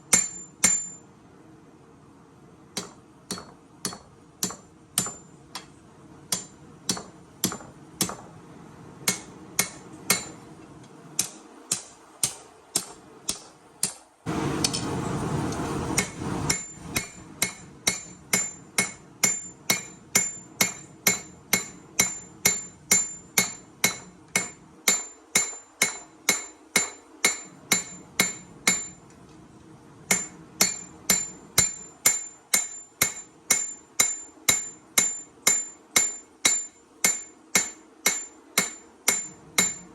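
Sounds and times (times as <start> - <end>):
hammer striking steel on anvil: 0.1 - 1.1, 2.8 - 8.3, 9.0 - 10.4, 11.2 - 14.0, 16.0 - 29.0, 30.1 - 39.9.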